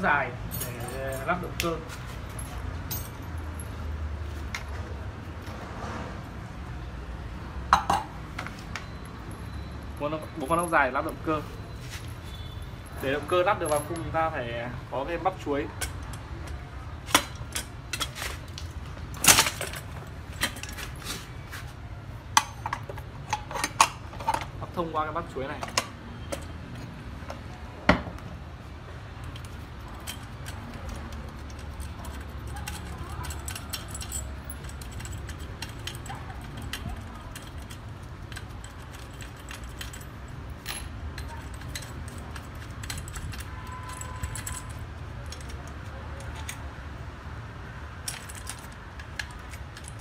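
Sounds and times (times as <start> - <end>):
metal parts and bolts clinking: 0.5 - 5.6, 7.7 - 28.2, 29.1 - 47.0, 48.0 - 50.0.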